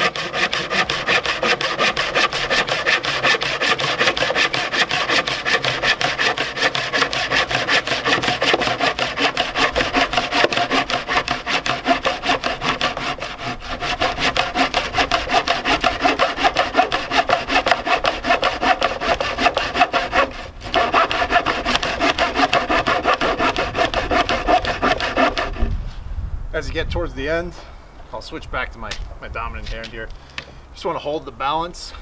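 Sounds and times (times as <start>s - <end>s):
hand saw cutting wood: 0.0s - 25.8s.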